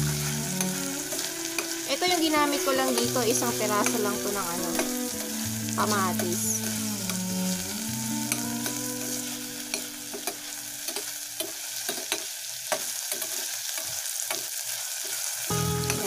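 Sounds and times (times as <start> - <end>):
vegetables sizzling in a pot: 0.0 - 16.0.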